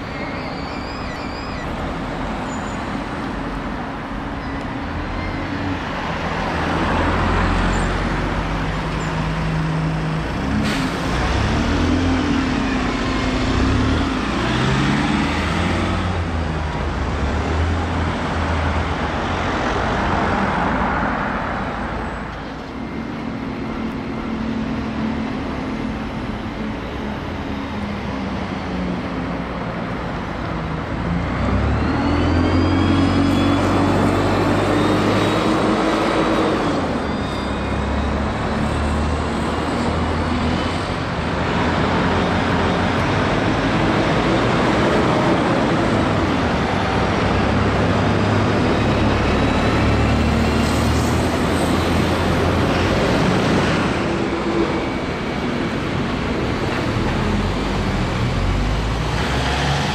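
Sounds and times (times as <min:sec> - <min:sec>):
buses driving past: 0:00.0 - 0:59.9.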